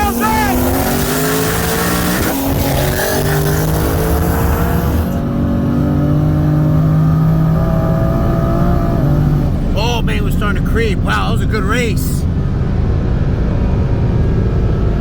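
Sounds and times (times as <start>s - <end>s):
cars accelerating at full throttle: 0.0s - 15.0s.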